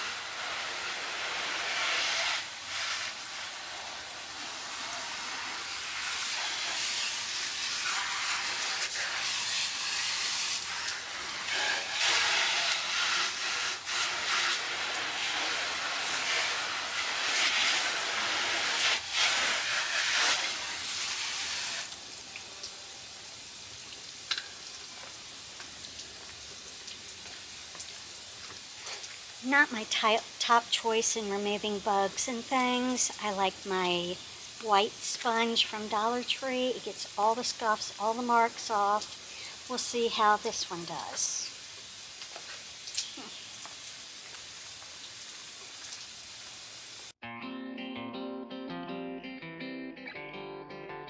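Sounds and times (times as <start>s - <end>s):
faint background hiss: 0.0s - 47.2s
water spraying from a hose: 0.0s - 47.2s.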